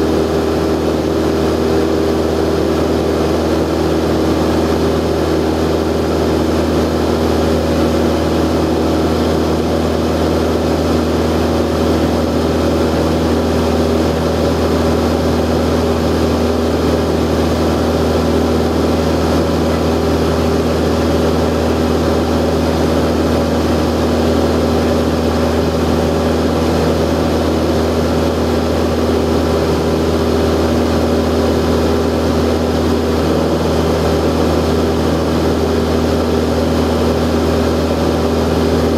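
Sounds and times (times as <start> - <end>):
airplane engine drone in cabin: 0.0 - 38.9.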